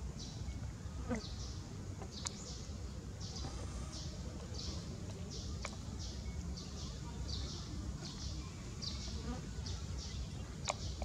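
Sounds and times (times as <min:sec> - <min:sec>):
insects pulsing buzz: 0:00.0 - 0:11.0.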